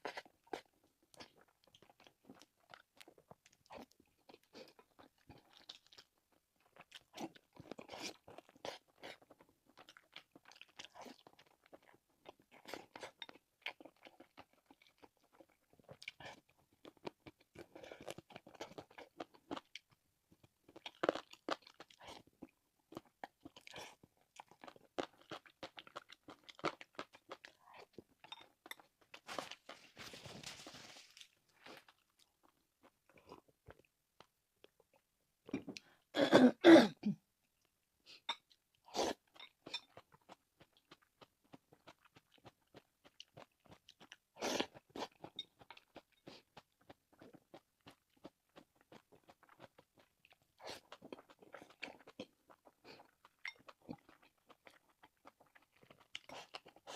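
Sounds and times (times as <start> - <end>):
person chewing meat: 0.0 - 35.0, 38.3 - 56.9.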